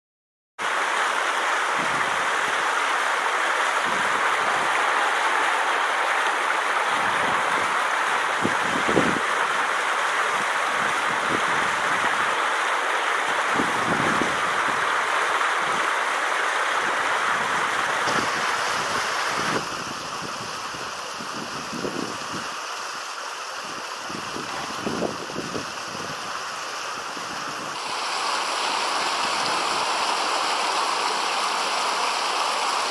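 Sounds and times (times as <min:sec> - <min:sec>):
river water rushing over stones: 0:00.6 - 0:32.9.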